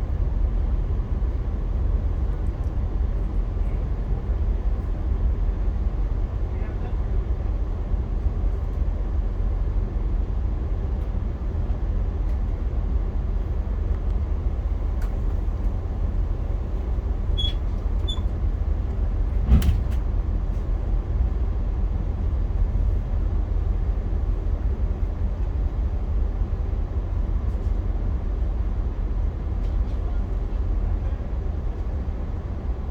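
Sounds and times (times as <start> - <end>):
passenger train rumbling: 0.0 - 32.9.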